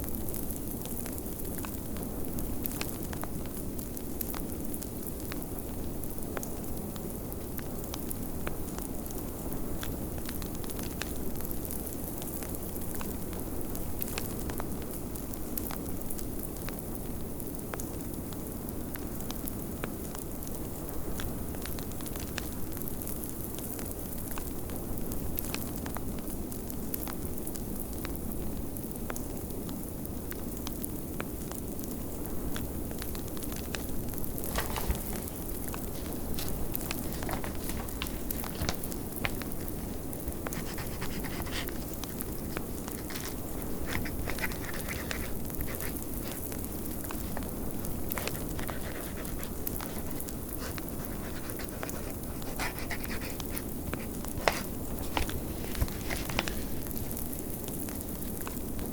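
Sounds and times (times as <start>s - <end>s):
wood fire crackling and popping: 0.2s - 58.9s.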